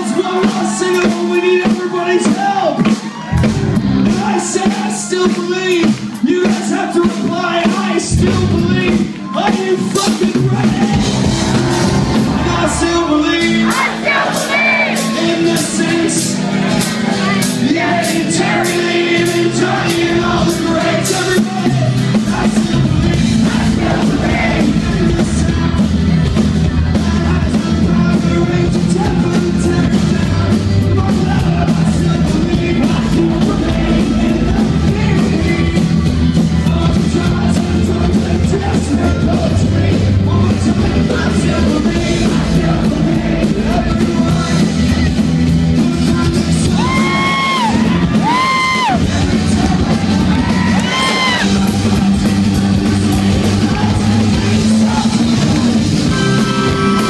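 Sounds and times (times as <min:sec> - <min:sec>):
drums: 0:00.0 - 0:57.0
heavy bass: 0:00.0 - 0:57.0
voices singing along: 0:00.0 - 0:57.0.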